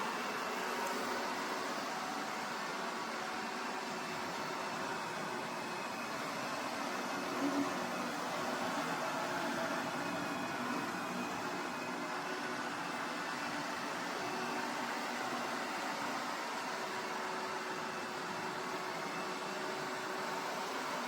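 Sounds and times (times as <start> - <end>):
robot vacuum cleaner running: 0.0 - 21.0.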